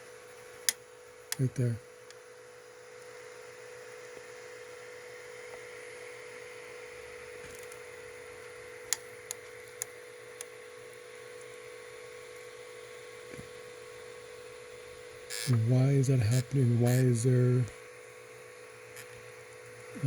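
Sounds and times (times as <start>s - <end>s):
printer humming: 0.0s - 20.0s.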